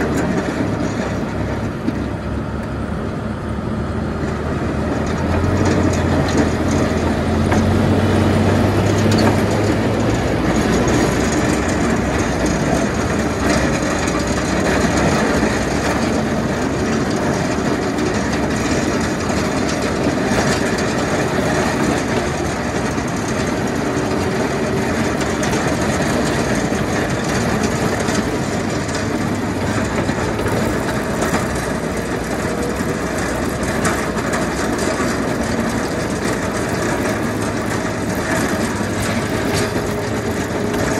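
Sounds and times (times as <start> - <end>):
plow scraping snow and ice: 0.0 - 40.9
snowplow engine running: 0.0 - 40.9.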